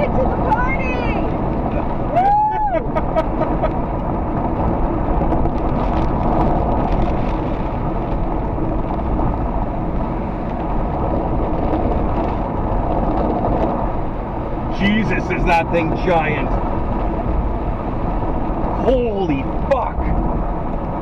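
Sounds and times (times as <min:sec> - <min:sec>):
road and wind noise in car: 0:00.0 - 0:21.0.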